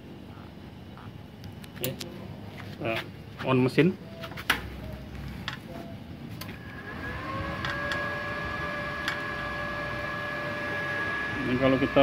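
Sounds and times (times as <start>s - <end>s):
cooling fan whine: 0.0s - 12.0s.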